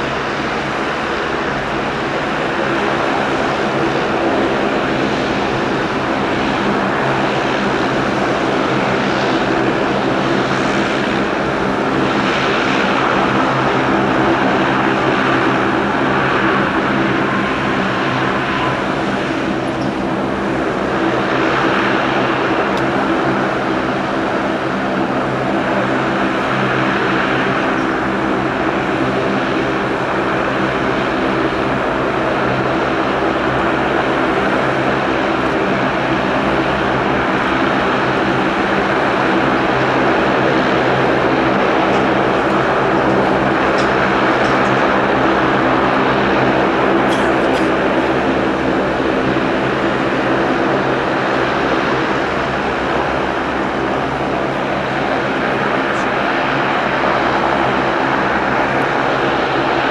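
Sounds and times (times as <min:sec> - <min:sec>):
rushing engine noise: 0:00.0 - 0:59.9
turboprop propeller hum: 0:00.0 - 0:59.9.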